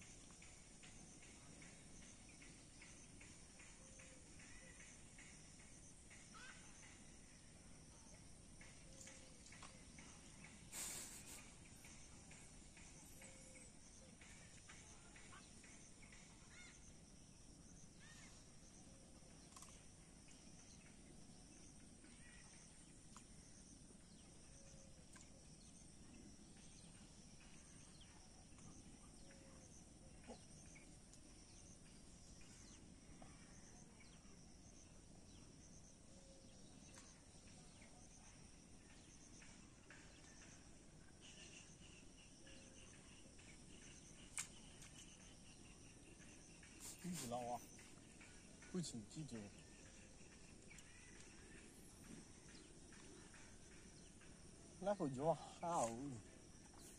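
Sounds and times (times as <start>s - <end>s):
faint bird chirps: 0.0s - 56.9s
high insect chorus: 0.0s - 56.9s.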